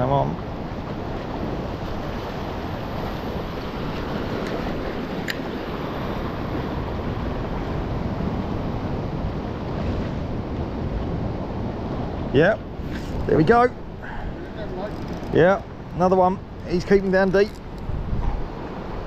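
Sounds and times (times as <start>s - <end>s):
sea waves on rocky shore: 0.0s - 19.0s
wind rumbling on microphone: 0.0s - 19.0s.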